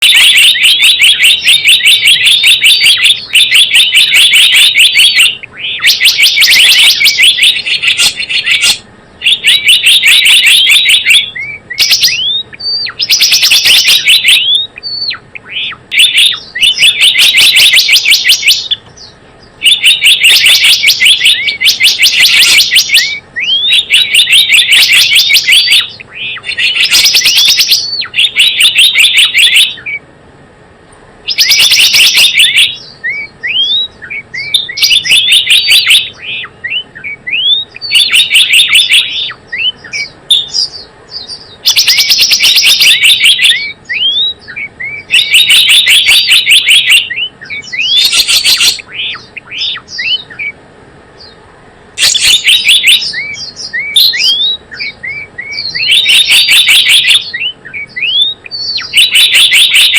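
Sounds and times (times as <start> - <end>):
rapid high bird chirps: 0.0 - 30.1, 31.2 - 59.9.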